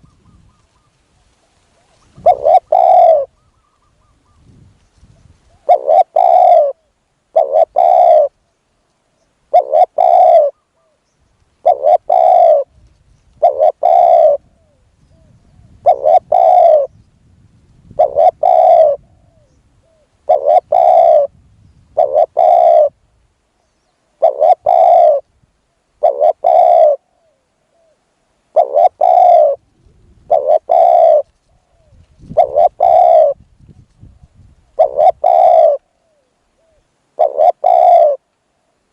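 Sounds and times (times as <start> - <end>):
dove cooing: 1.7 - 4.6, 5.2 - 8.5, 9.2 - 17.0, 17.9 - 23.0, 24.0 - 25.3, 26.0 - 38.8.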